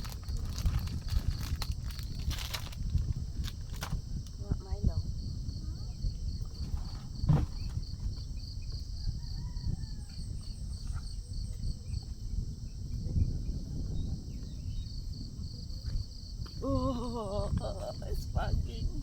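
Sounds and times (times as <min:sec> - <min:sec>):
cricket-like insect chirping: 0:00.0 - 0:19.0.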